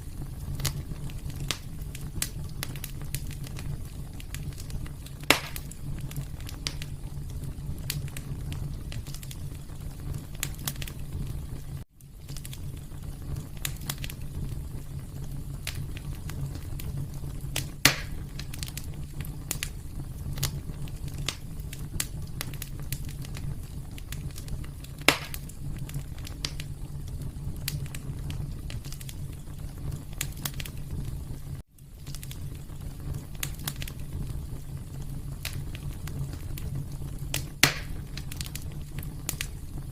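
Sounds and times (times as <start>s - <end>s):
fire crackling in a fireplace: 0.0s - 39.9s
fire popping: 0.0s - 39.9s.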